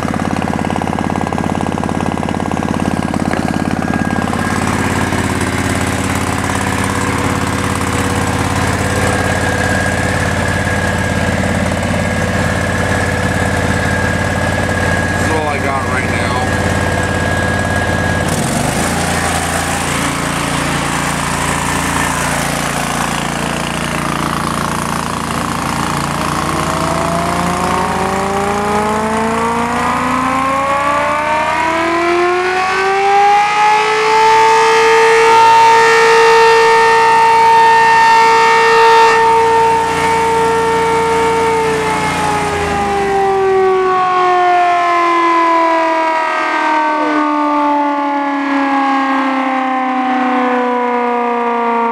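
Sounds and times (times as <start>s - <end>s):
air raid siren wailing: 0.0s - 51.9s.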